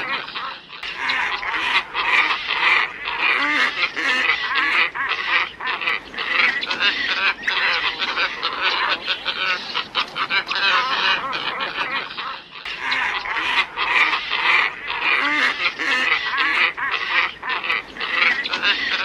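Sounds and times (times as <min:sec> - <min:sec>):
ibis flock calling: 0:00.0 - 0:19.0.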